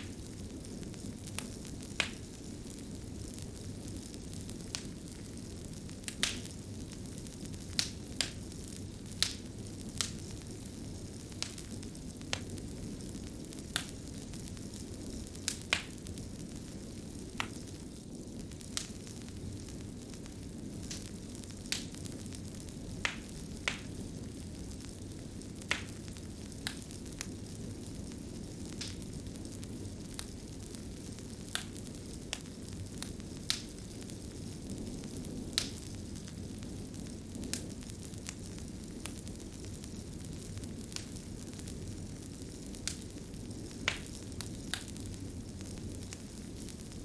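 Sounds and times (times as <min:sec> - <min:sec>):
fire crackling: 0:00.0 - 0:47.0
fire pops and snaps: 0:00.0 - 0:47.0
low rush of flame: 0:00.0 - 0:47.0.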